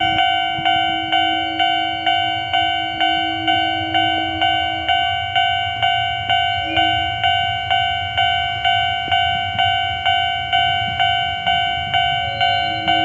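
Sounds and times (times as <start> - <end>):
level crossing bell ringing: 0.0 - 13.0.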